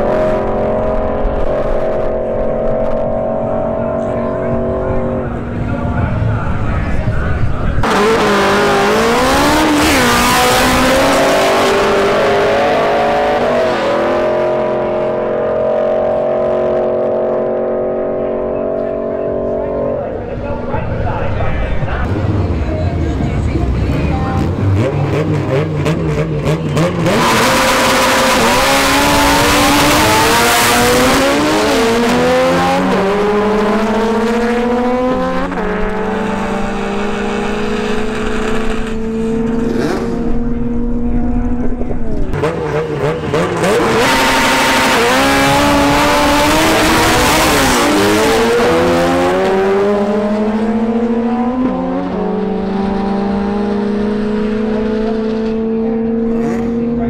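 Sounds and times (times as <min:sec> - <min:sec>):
drag car engine accelerating through gears: 0:00.0 - 0:57.0.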